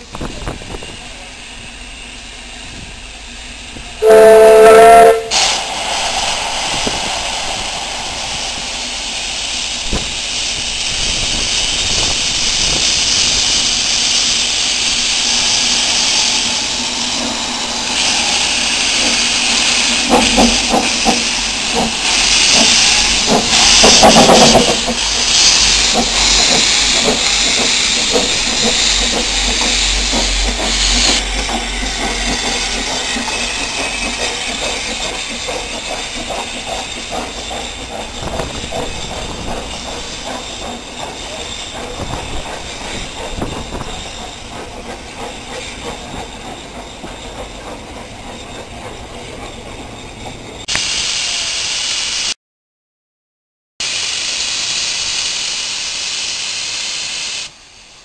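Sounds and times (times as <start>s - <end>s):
steam locomotive hissing: 0.0s - 52.4s, 53.8s - 58.0s.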